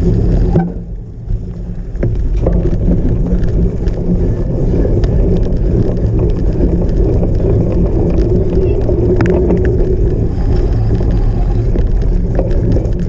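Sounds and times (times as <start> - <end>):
bike rumbling and rattling: 0.0 - 13.0
wind buffeting microphone: 0.0 - 13.0.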